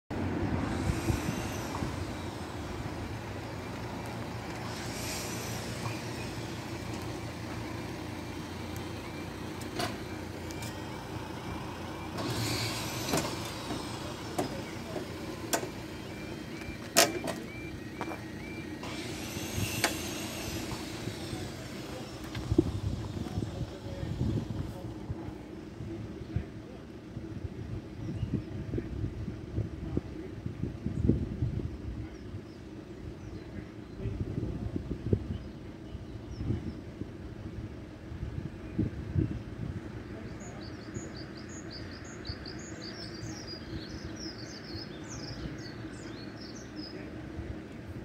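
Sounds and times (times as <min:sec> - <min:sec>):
road traffic passing: 0:00.1 - 0:48.0.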